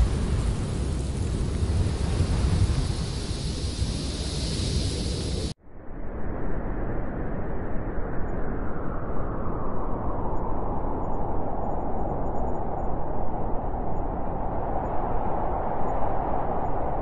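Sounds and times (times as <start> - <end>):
wind buffeting microphone: 0.0 - 5.6, 7.8 - 17.0.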